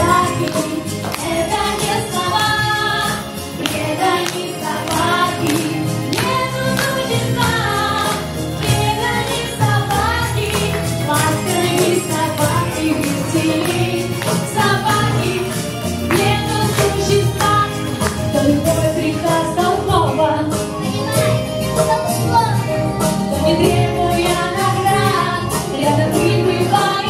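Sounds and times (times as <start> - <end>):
woman singing into a microphone: 0.0 - 20.7, 23.4 - 27.0
piano: 0.0 - 27.0.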